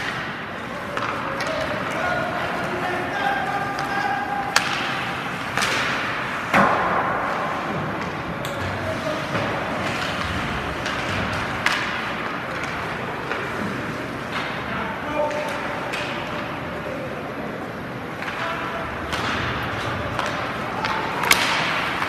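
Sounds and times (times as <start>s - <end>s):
hockey stick hitting puck: 0.0s - 16.6s, 18.1s - 22.0s.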